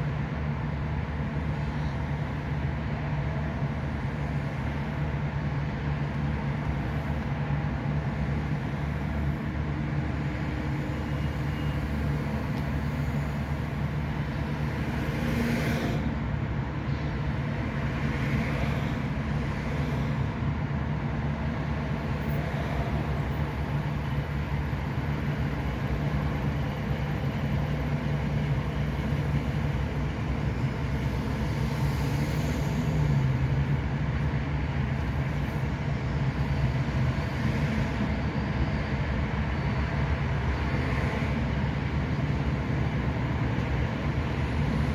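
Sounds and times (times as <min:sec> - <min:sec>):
road traffic engine hum: 0:00.0 - 0:44.9.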